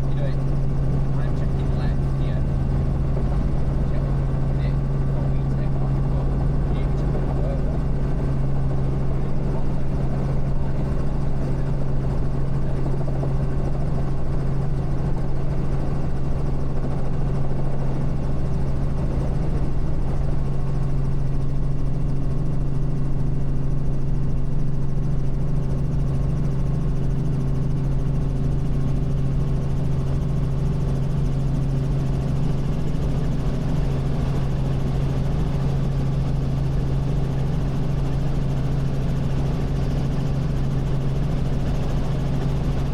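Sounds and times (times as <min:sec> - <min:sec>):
helicopter rotor and engine drone: 0:00.0 - 0:42.9.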